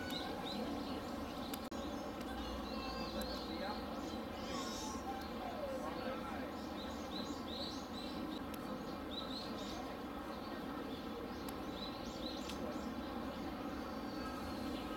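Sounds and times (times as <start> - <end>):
small birds chirping: 0.0 - 14.9
steady background hum: 0.0 - 14.9.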